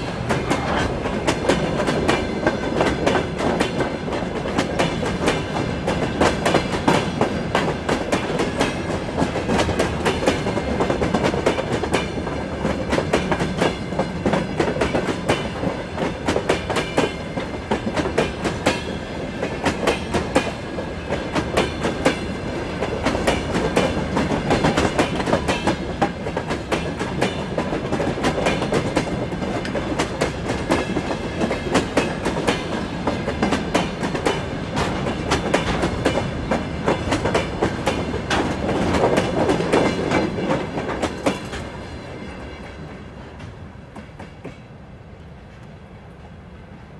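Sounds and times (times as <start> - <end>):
wheels clacking over rail joints: 0.0 - 44.6
freight train rumble and rattle: 0.0 - 46.9.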